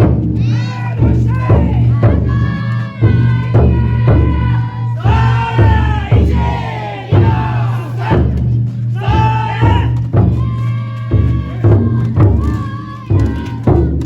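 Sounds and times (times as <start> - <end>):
taiko drum beating: 0.0 - 14.0
group of voices chanting: 0.3 - 14.0.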